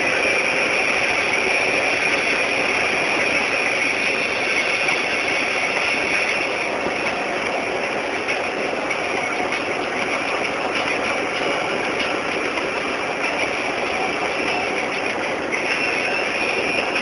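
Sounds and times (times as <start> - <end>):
hail and rain pelting down: 0.0 - 17.0.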